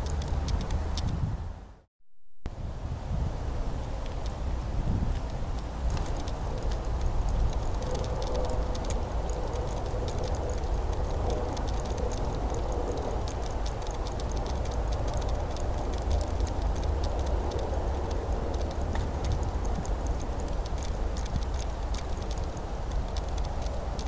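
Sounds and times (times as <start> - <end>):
dog claws clicking on paving: 0.0 - 1.2, 3.9 - 24.0
low wind rumble on microphone: 0.0 - 24.0.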